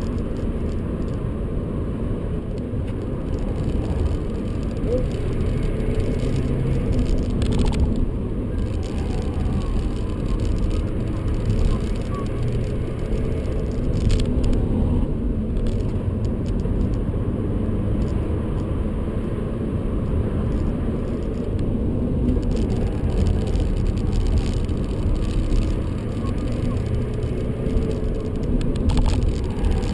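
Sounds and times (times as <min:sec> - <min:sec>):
diesel car engine pulling: 0:00.0 - 0:29.9
road and tyre rumble: 0:00.0 - 0:29.9.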